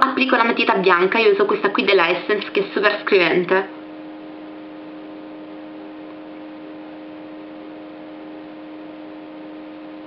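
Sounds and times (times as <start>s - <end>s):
constant hiss: 0.0s - 10.0s
electrical hum: 0.0s - 10.0s.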